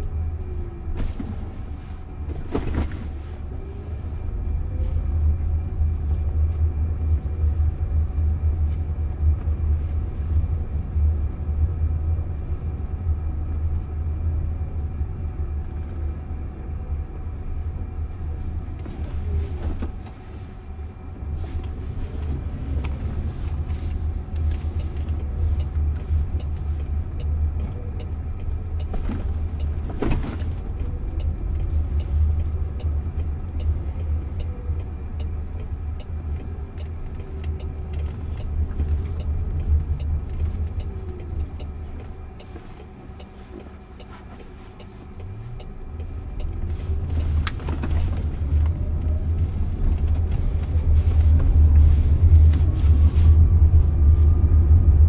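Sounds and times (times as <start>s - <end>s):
tyres rumbling on road: 0.0s - 55.0s.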